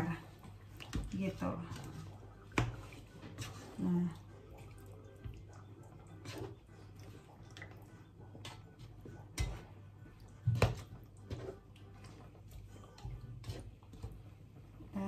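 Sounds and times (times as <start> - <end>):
food stirred in wet sauce: 0.0 - 15.0.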